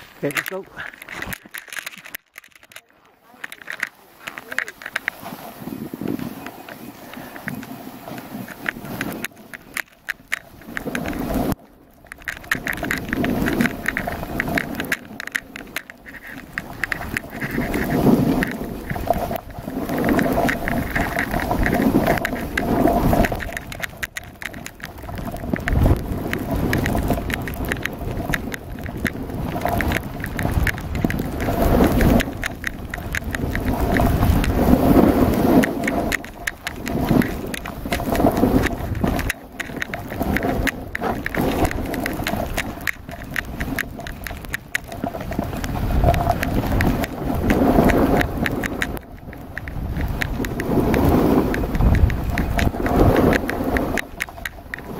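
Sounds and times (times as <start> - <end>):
skis sliding on snow: 0.0 - 1.4, 3.2 - 54.9
wind buffeting microphone: 3.5 - 11.6, 12.2 - 54.9.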